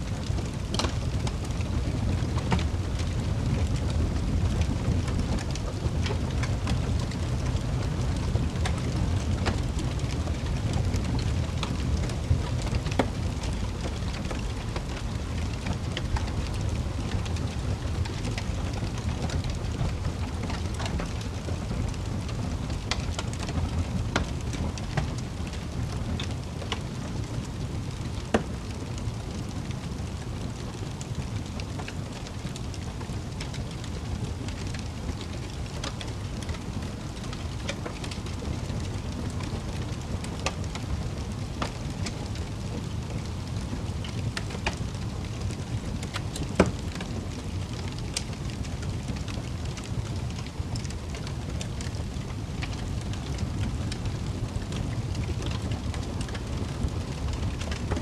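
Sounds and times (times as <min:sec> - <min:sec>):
fire crackles and pops: 0:00.0 - 0:58.0
wood fire rumbling: 0:00.0 - 0:58.0.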